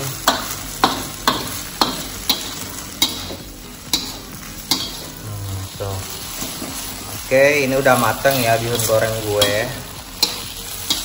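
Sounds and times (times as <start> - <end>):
food sizzling: 0.0 - 11.0
spatula scraping wok: 0.0 - 11.0.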